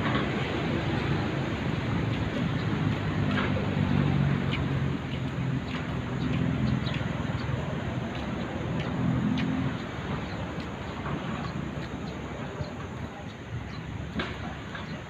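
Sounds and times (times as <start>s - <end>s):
street traffic noise: 0.0s - 15.0s
vehicle engine humming: 0.0s - 15.0s.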